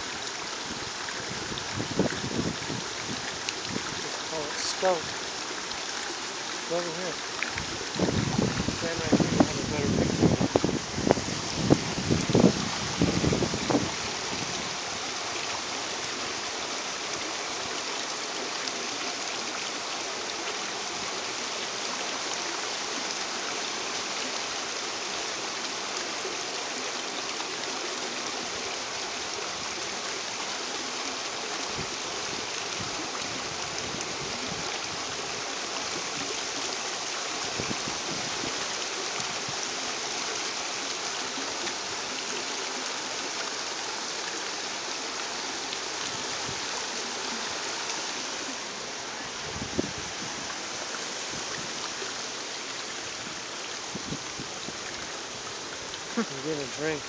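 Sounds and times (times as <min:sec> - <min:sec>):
running water hiss: 0:00.0 - 0:57.0.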